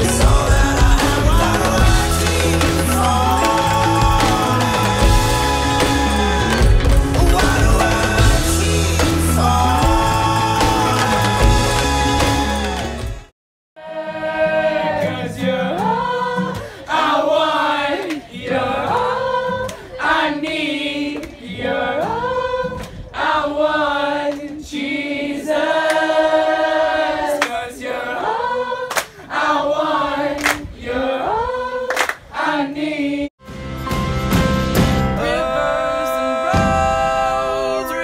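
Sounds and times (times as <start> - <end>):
group singing a worship song: 0.0 - 33.3, 35.1 - 38.0.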